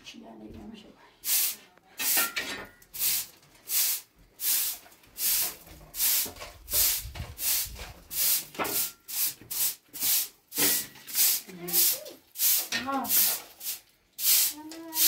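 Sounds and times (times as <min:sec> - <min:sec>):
broom sweeping a bare floor: 0:01.2 - 0:15.0.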